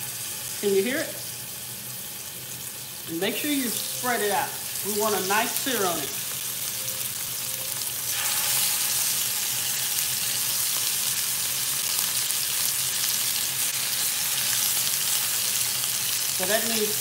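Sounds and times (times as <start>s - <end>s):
meat sizzling in a skillet: 0.0s - 17.0s.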